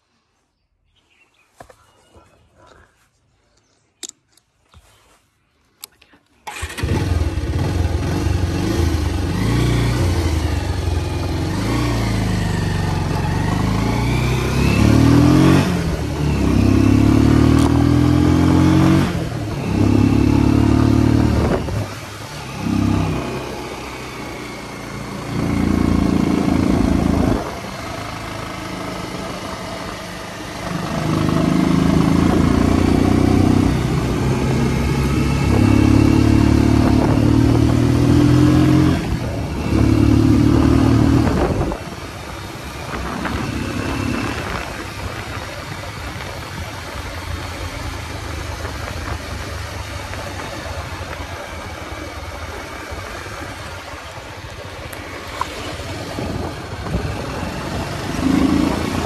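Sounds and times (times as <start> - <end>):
motorcycle engine revving: 6.5 - 59.0.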